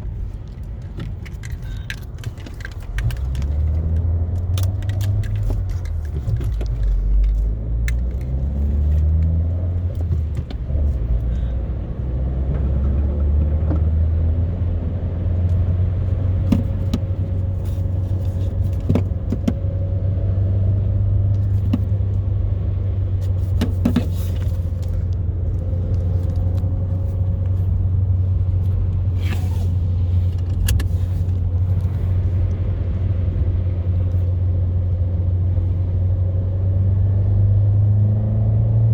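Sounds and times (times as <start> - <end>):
car engine drone inside cabin: 0.0 - 38.9.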